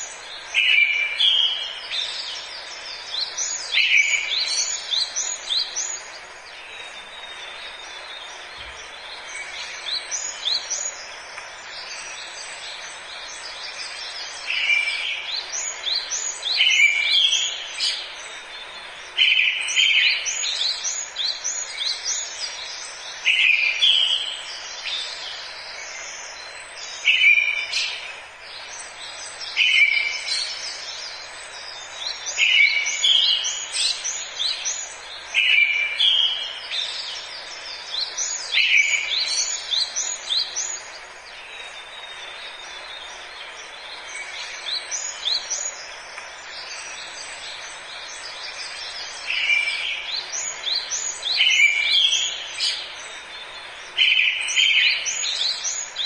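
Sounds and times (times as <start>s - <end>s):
background hiss: 0.0s - 56.0s
chorus of bird chirps: 0.0s - 56.0s.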